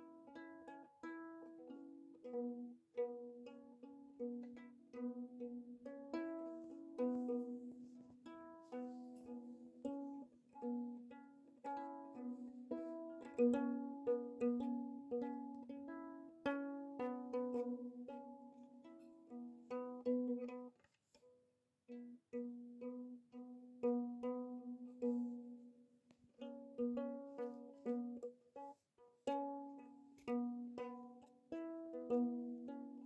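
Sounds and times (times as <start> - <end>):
pizzicato string music: 0.0 - 21.2, 21.8 - 33.0.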